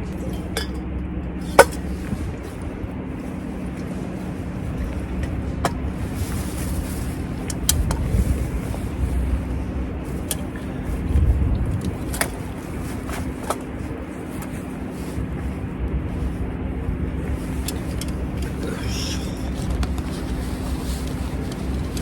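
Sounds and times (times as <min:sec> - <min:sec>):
vehicles passing on road: 0:00.0 - 0:22.0
camp gear clicking and clinking: 0:03.4 - 0:16.2, 0:16.9 - 0:22.0.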